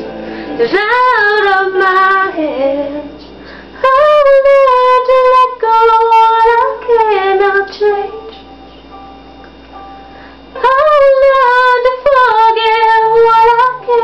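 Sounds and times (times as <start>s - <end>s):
faint backing music: 0.0s - 14.0s.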